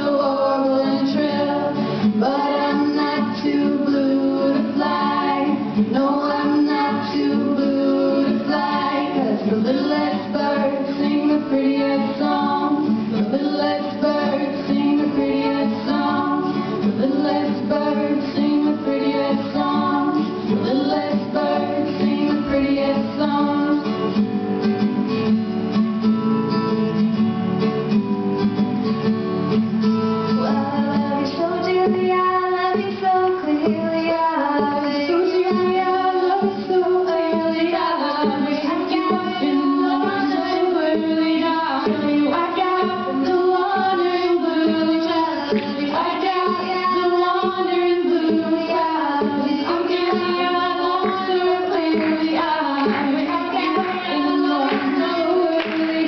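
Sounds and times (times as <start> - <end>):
women singing: 0.0 - 24.3, 30.3 - 56.0
acoustic guitar: 0.0 - 56.0.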